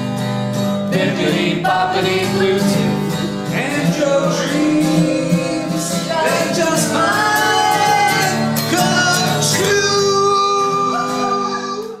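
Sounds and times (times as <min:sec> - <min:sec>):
country song with guitar: 0:00.0 - 0:12.0
man singing: 0:00.9 - 0:12.0.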